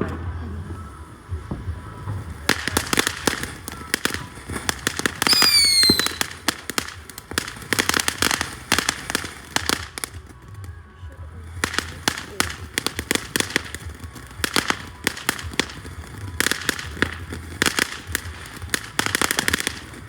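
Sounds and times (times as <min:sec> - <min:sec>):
fireworks popping and crackling: 0:00.0 - 0:20.0
whistling firework: 0:00.0 - 0:20.0.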